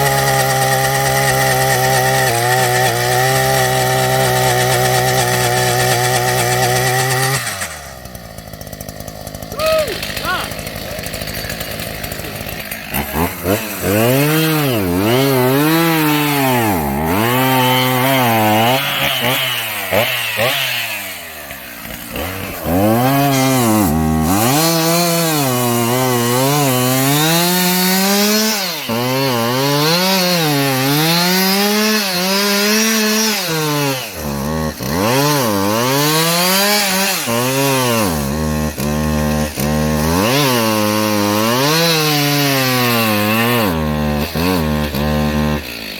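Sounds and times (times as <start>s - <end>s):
chainsaw revving and cutting: 0.0s - 45.9s.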